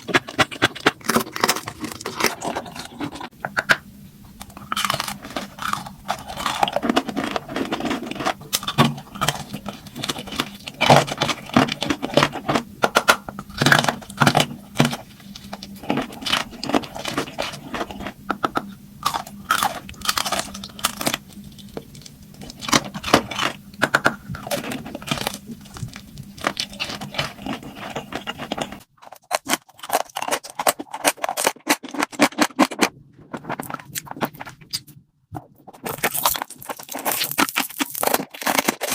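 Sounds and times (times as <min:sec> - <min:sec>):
crunchy bites and chewing: 0:00.0 - 0:38.9
low background hum: 0:00.0 - 0:38.9
scraping and crinkling: 0:00.0 - 0:38.9.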